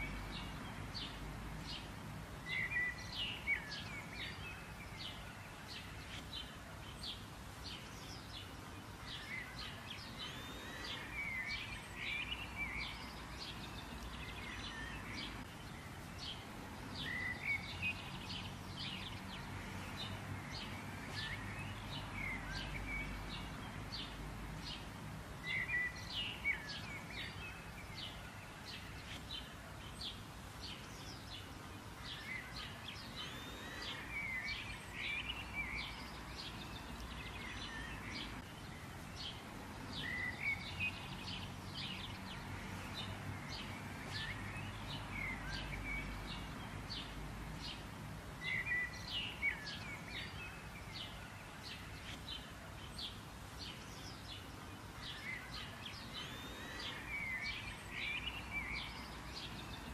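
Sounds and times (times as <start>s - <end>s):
low background noise: 0.0s - 59.9s
small birds chirping: 0.0s - 59.9s.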